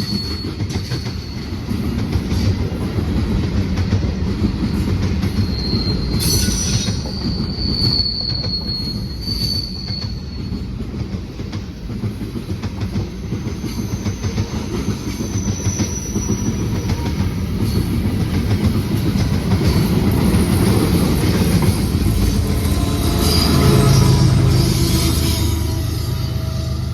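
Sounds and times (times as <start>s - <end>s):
train wheel squeals: 0.0s - 2.6s, 4.6s - 11.4s, 12.4s - 26.9s
freight train rumbling: 0.0s - 26.9s.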